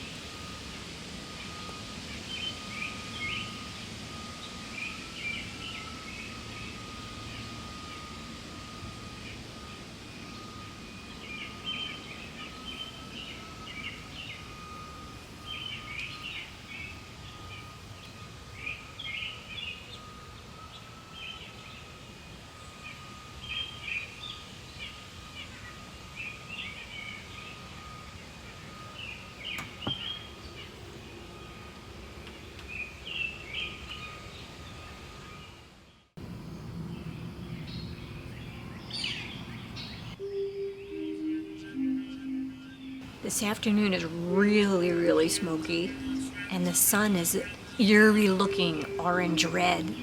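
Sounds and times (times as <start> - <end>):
faint steady high tone: 0.0 - 50.0
birds chirping: 1.3 - 22.0, 22.6 - 31.7, 32.3 - 50.0.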